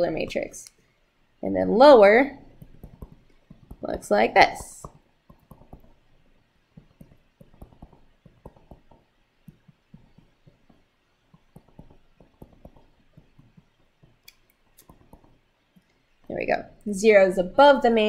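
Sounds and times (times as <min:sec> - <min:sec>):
stylus tapping and scratching: 0:00.0 - 0:00.7, 0:02.4 - 0:16.8.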